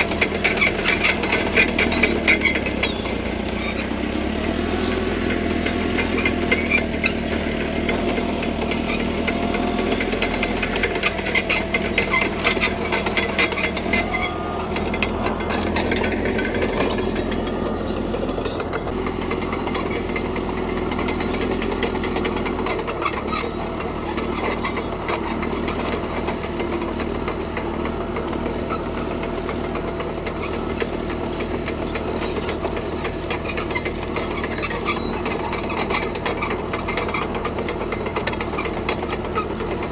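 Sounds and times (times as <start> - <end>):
bulldozer diesel engine running: 0.0 - 39.9
rapid metallic clatter: 0.0 - 39.9.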